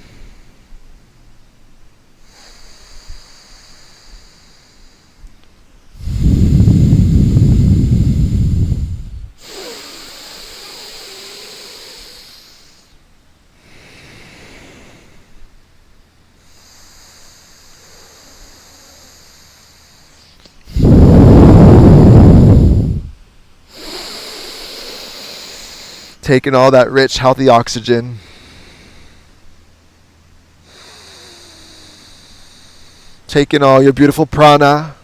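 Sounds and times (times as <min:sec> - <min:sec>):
loud nasal breaths: 0:00.0 - 0:00.9, 0:02.2 - 0:15.6, 0:16.3 - 0:26.2, 0:28.1 - 0:29.9, 0:30.6 - 0:33.3
soft hissing breaths: 0:00.0 - 0:35.0.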